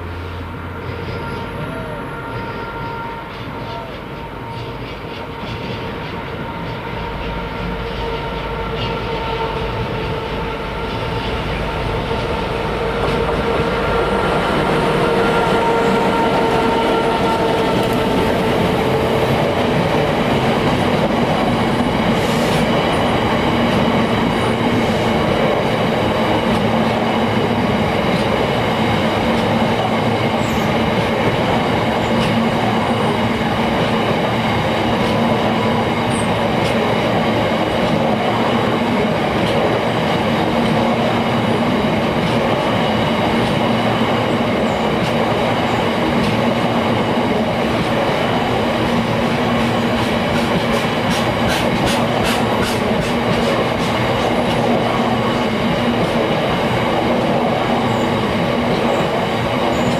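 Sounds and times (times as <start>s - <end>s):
diesel freight train passing: 0.0s - 59.9s.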